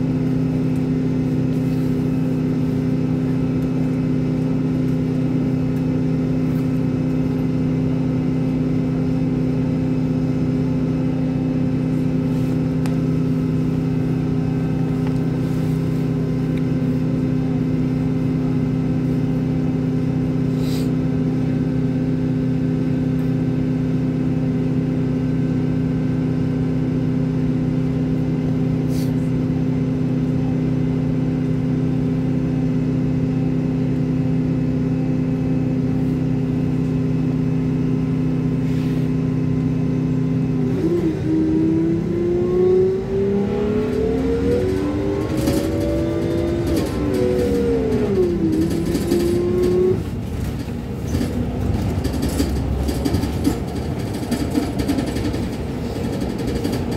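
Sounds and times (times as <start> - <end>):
vehicle engine idling and revving: 0.0 - 56.9.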